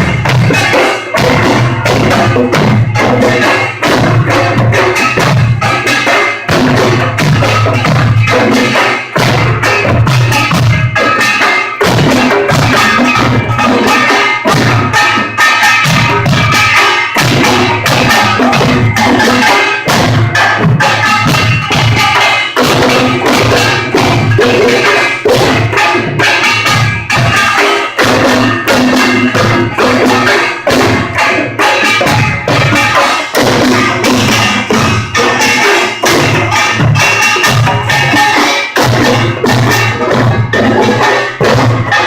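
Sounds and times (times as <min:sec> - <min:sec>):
drums playing fast rhythm: 0:00.0 - 0:42.0
small gongs clanging: 0:00.0 - 0:42.0.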